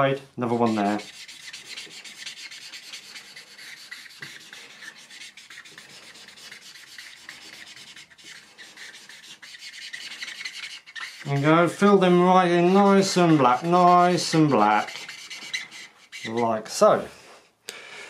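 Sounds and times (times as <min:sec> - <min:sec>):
marker scribbling on paper: 0:00.5 - 0:16.8.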